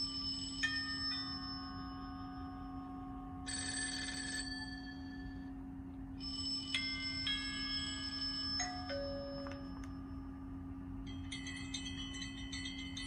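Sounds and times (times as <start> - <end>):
bell-like chimes ringing: 0.0 - 5.5, 6.2 - 10.3, 11.0 - 13.0
rapid trilling telephone bell: 0.0 - 5.5, 6.2 - 9.8, 11.0 - 13.0
steady low hum: 0.0 - 13.0.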